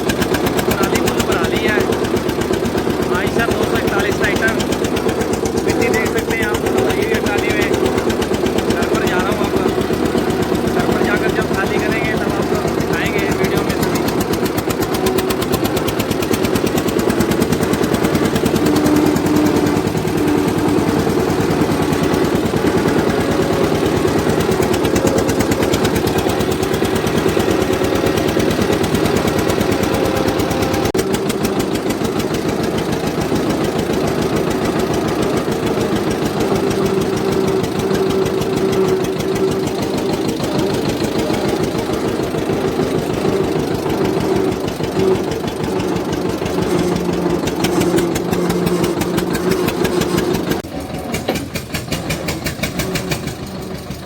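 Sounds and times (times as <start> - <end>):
tractor diesel engine chugging: 0.0 - 54.0.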